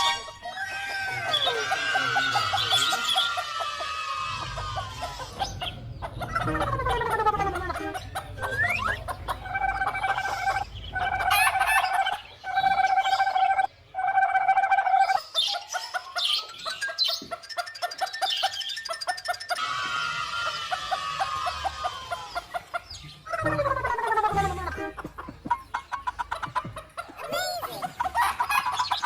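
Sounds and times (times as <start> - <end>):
chickens calling and clucking: 0.0 - 29.0.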